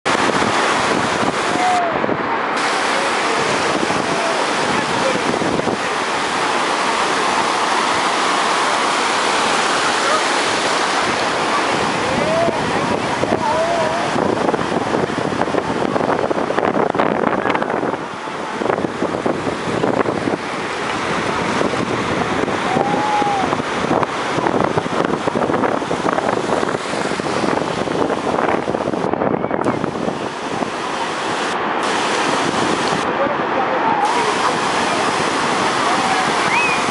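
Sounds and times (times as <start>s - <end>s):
wind buffeting microphone: 0.0s - 33.3s, 34.0s - 36.9s
surf breaking on beach: 0.0s - 36.9s
voices of large crowd: 1.0s - 25.5s, 28.2s - 36.9s.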